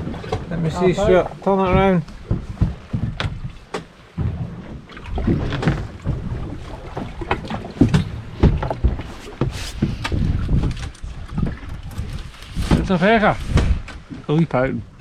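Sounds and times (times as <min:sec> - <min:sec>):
knocks and clunks on boat: 0:00.0 - 0:15.0
wind rumble on microphone: 0:00.0 - 0:15.0.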